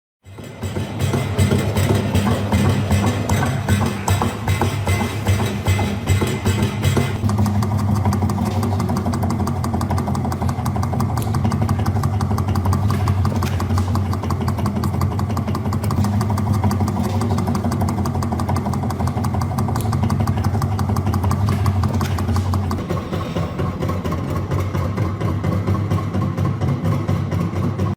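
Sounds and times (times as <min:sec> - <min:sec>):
fan running with clattering ticks: 0:00.2 - 0:27.9.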